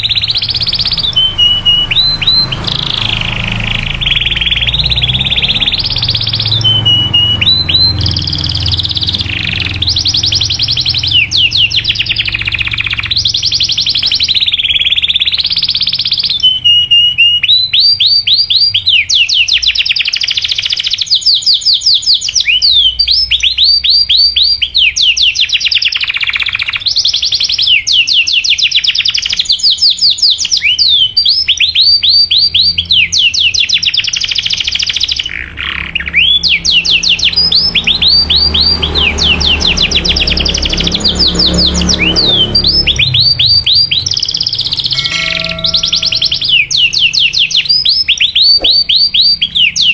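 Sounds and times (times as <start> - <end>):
canary singing rolled trills: 0.0 - 49.9.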